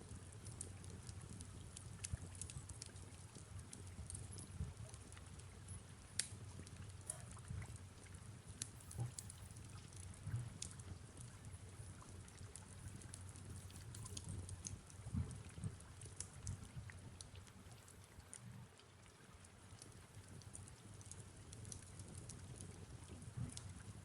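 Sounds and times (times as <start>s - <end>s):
fire crackling and popping: 0.0s - 18.8s, 19.4s - 24.0s
soft rain falling: 0.0s - 24.0s.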